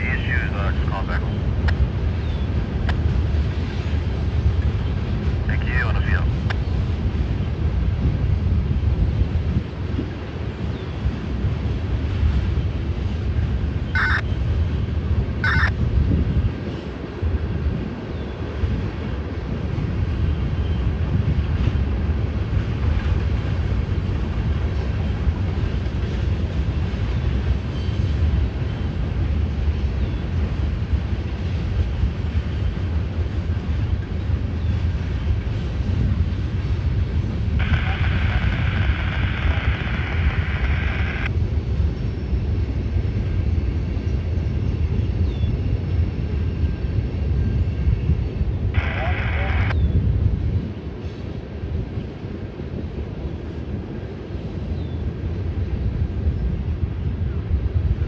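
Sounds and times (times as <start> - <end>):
train rumbling over steel bridge: 0.0 - 49.2, 49.8 - 58.0.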